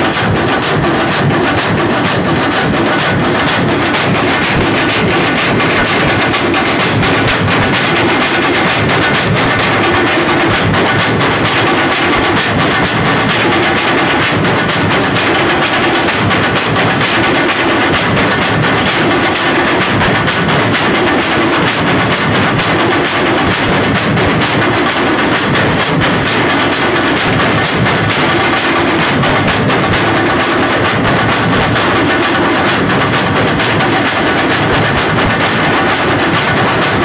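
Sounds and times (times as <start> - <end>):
drummers playing fast rhythm: 0.0 - 37.0.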